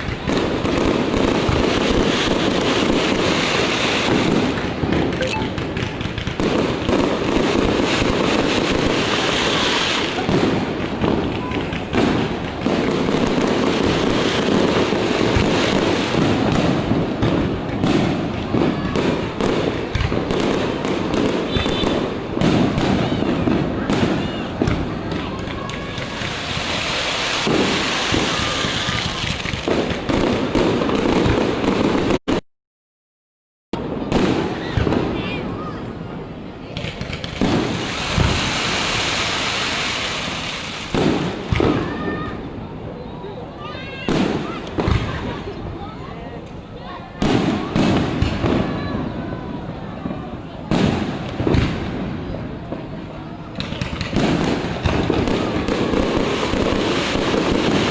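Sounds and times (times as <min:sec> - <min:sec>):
fireworks booming and crackling: 0:00.0 - 0:32.4, 0:33.8 - 0:57.9.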